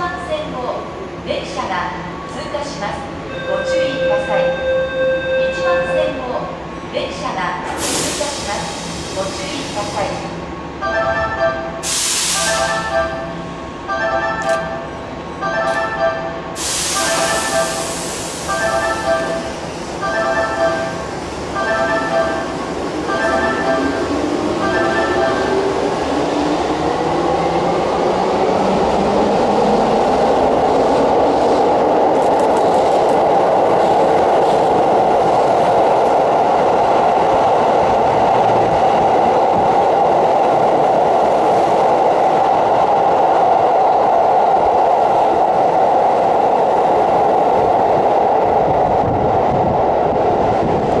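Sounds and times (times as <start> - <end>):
train wheels rumbling on rail: 5.5 - 10.8, 11.4 - 51.0.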